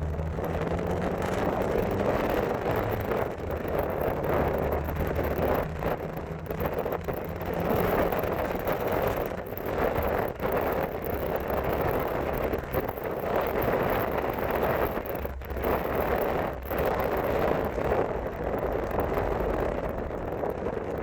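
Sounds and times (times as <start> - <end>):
pickup truck engine: 0.0 - 21.0
road noise: 0.0 - 21.0
wind buffeting microphone: 0.0 - 21.0.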